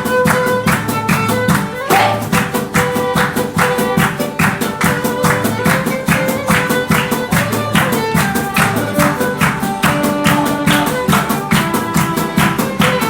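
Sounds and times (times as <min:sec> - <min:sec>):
band playing quick beat music: 0:00.0 - 0:13.0.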